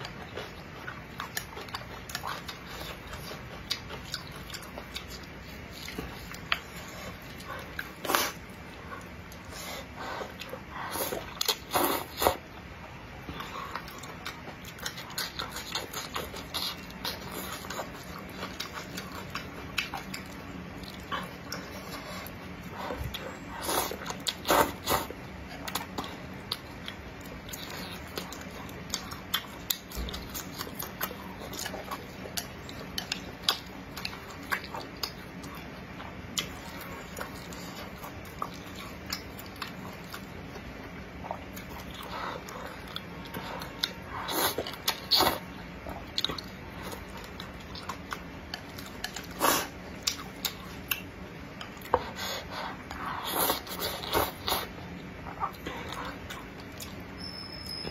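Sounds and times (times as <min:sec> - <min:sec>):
wet chewing: 0:00.0 - 0:57.8.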